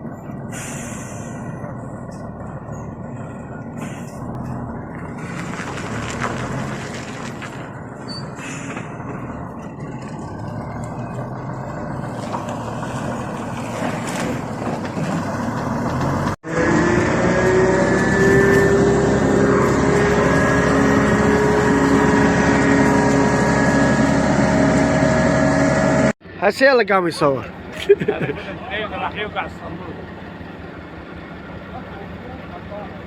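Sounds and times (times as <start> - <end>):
heavy vehicle engine running: 0.0 - 26.4, 27.3 - 33.0.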